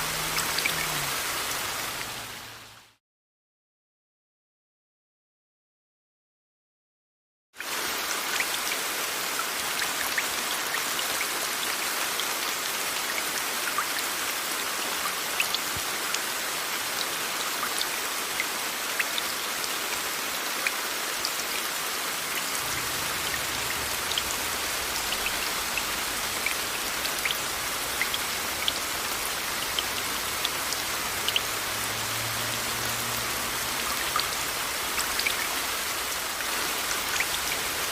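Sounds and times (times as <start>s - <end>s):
steady rain: 0.0s - 3.0s, 7.6s - 37.9s.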